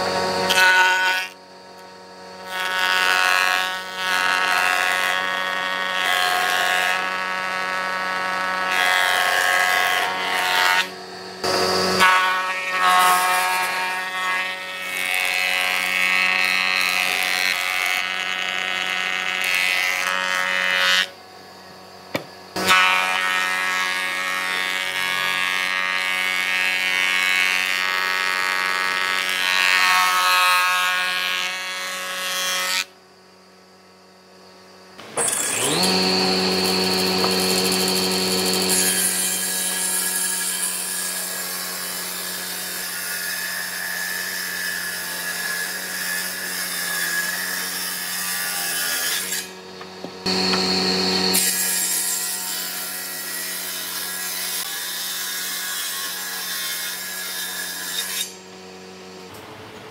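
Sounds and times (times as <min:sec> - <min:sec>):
power tool motor on wood: 0:00.0 - 0:33.0, 0:34.9 - 0:59.4.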